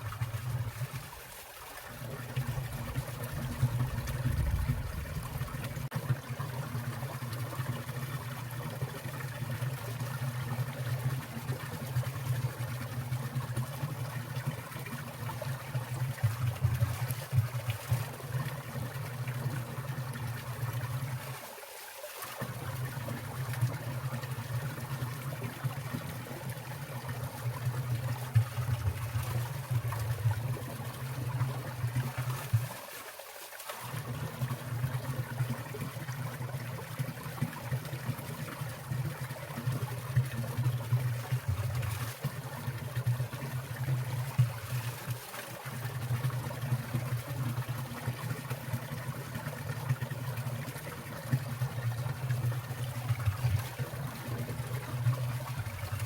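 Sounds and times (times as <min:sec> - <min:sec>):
low water rush: 0:00.0 - 0:56.0
stream trickling and splashing: 0:00.0 - 0:56.0.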